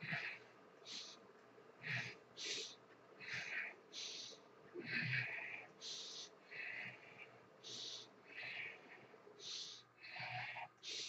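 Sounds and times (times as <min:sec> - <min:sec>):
man breathing hard: 0:00.0 - 0:01.2, 0:01.8 - 0:11.0.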